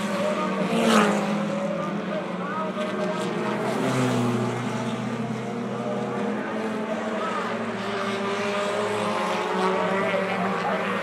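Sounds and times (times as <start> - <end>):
race car engines running: 0.0 - 11.0.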